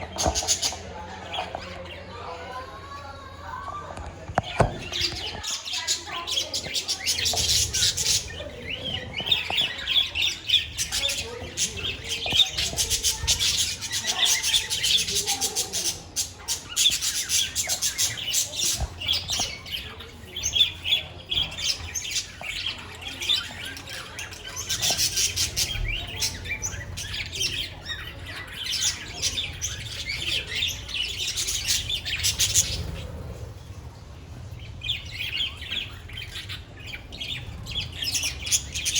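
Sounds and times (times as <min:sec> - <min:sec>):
budgerigars chirping and chattering: 0:00.0 - 0:02.3, 0:04.4 - 0:38.9.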